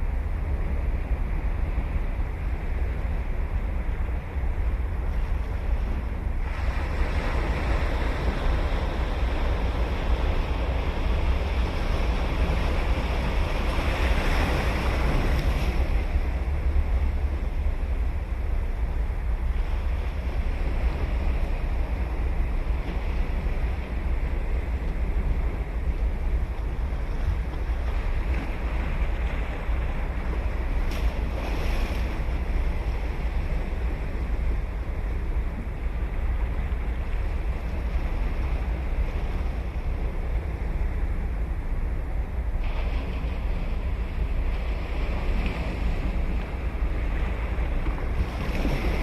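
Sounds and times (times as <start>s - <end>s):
ocean waves breaking: 0.0s - 49.0s
wind on microphone: 0.0s - 49.0s.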